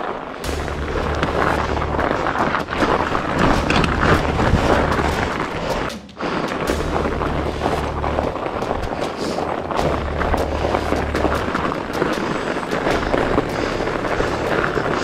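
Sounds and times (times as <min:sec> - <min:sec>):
bike tyre and frame noise on snow: 0:00.0 - 0:15.0
wind rumbling on microphone: 0:00.0 - 0:15.0.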